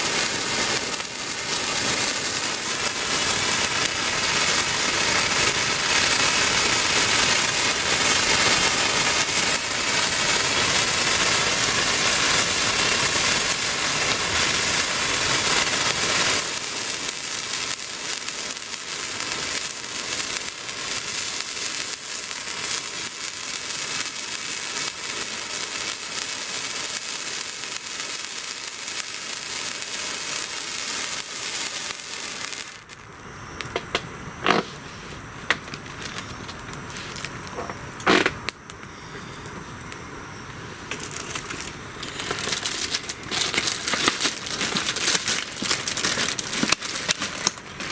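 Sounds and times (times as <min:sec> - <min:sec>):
spark firework hissing and crackling: 0:00.0 - 0:47.9.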